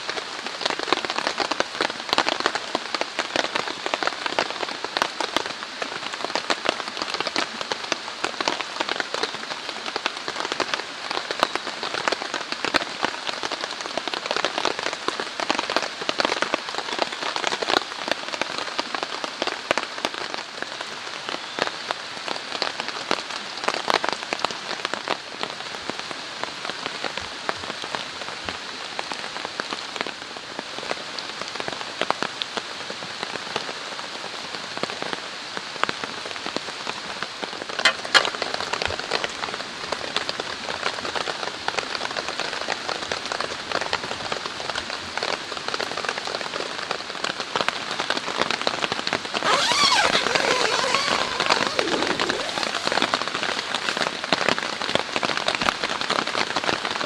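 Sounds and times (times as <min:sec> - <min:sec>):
rain on a tent: 0:00.0 - 0:57.0.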